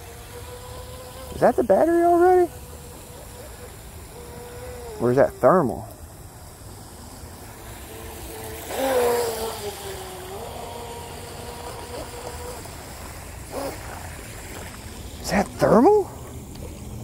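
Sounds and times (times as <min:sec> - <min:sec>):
rc boat motor whine: 0:00.0 - 0:17.0
water spray rushing: 0:00.0 - 0:17.0.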